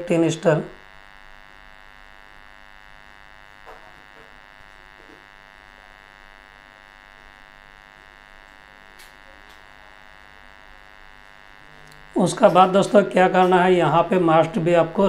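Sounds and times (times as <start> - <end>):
electrical buzz: 0.0 - 15.0.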